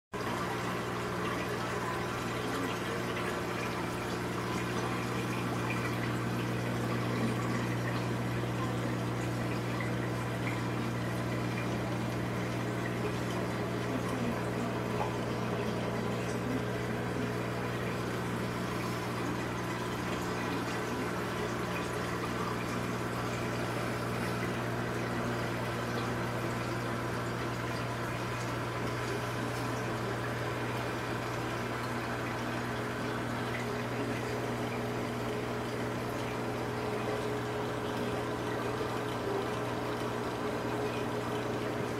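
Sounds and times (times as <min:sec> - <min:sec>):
low pump hum: 0:00.2 - 0:41.9
water rushing and trickling: 0:00.2 - 0:41.9.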